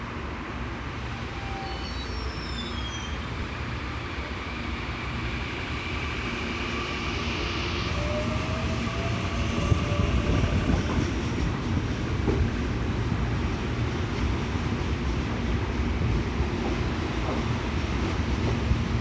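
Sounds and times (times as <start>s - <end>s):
train wheels rumbling on rail: 0.8s - 19.0s.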